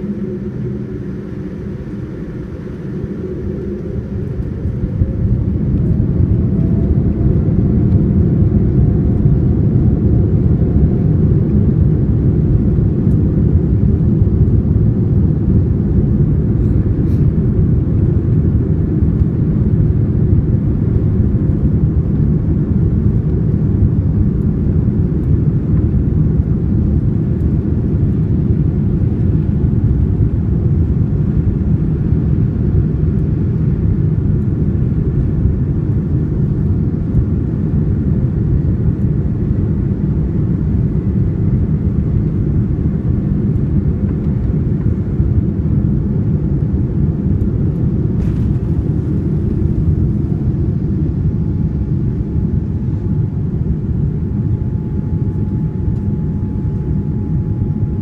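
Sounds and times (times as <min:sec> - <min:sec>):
aircraft engines at low thrust: 0:00.0 - 0:58.0.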